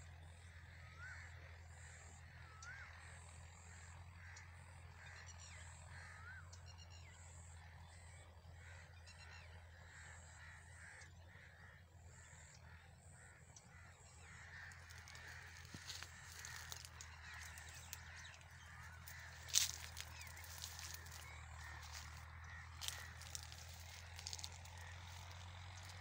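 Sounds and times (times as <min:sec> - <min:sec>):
steady low hum: 0:00.0 - 0:26.0
faint bird calls: 0:00.1 - 0:26.0.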